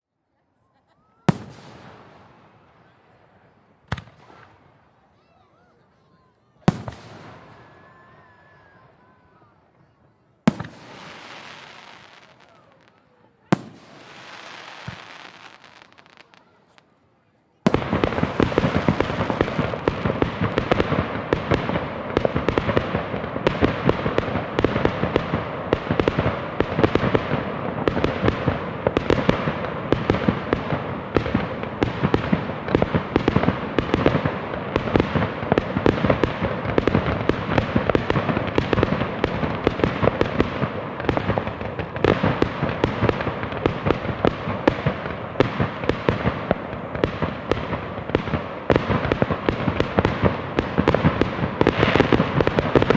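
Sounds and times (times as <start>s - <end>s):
fireworks bangs and crackling: 0.8s - 52.9s.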